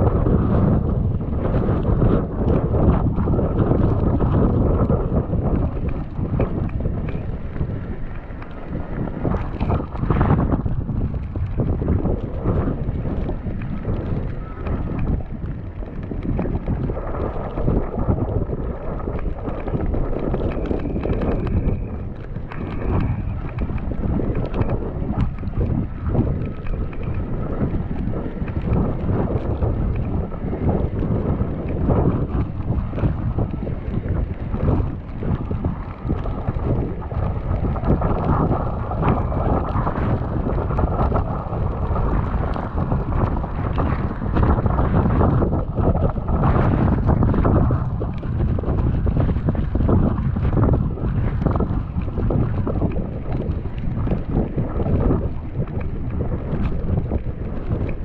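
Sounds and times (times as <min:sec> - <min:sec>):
wind buffeting microphone: 0:00.0 - 0:58.0
short crackles: 0:01.7 - 0:54.3.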